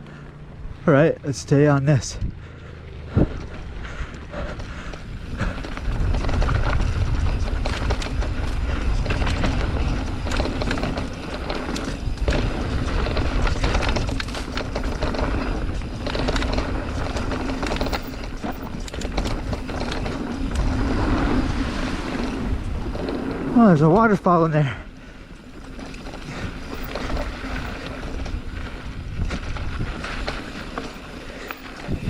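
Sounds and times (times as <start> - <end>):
wind rumble on microphone: 1.9 - 24.3, 24.9 - 32.0
bike tyres rolling over rock: 3.0 - 32.0
bike chain and frame clattering: 3.2 - 32.0.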